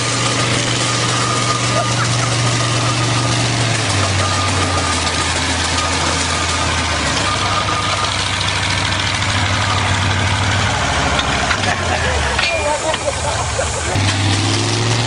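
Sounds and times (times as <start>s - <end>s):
tractor diesel engine straining: 0.0s - 15.0s.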